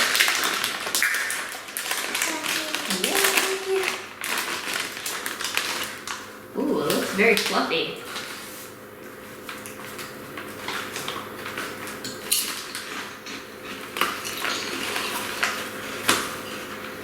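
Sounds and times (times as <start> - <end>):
corn chips crunching: 0.0 - 8.4, 9.4 - 17.0.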